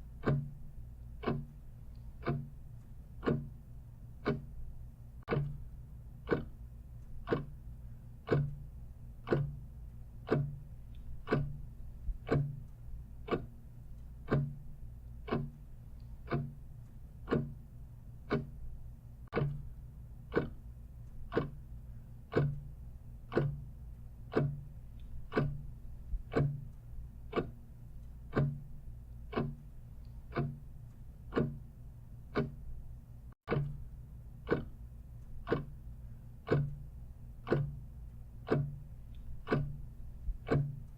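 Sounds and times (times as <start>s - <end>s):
clock ticking: 0.0s - 40.9s
low steady hum: 0.0s - 40.9s.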